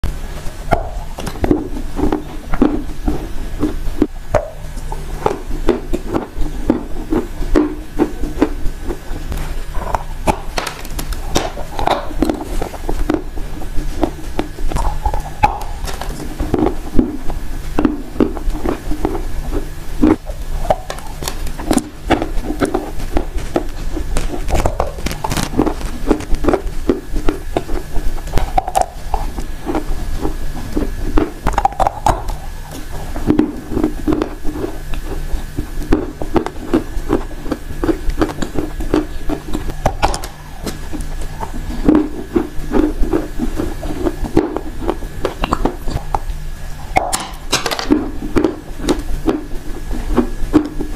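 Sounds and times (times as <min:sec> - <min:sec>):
chewing dry clay crunches: 0:00.0 - 0:50.9.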